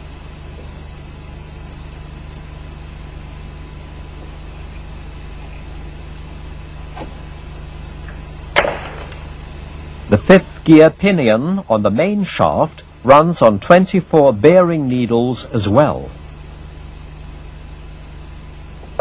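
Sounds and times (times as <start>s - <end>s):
film soundtrack hum and hiss: 0.0s - 19.0s.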